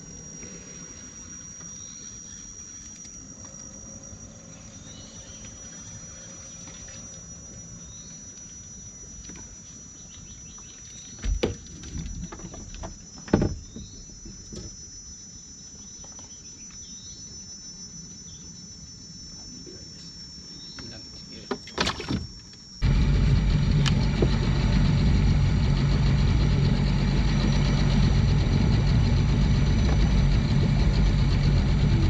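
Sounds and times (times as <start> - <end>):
insect chirps: 0.0 - 32.0
insects droning: 0.0 - 32.0.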